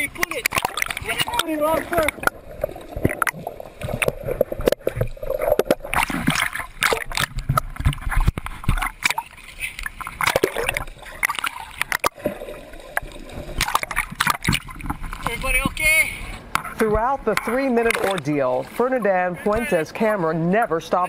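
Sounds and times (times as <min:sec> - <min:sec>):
sea water splashing and gurgling: 0:00.0 - 0:20.2.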